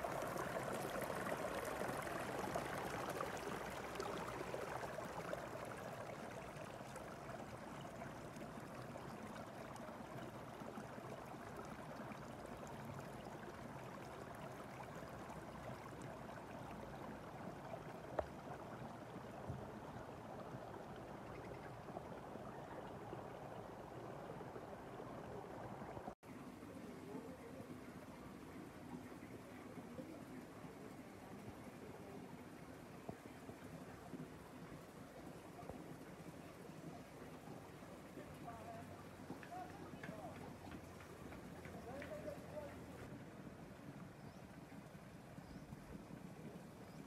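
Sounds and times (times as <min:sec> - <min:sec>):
running water rushing: 0:00.0 - 0:47.0.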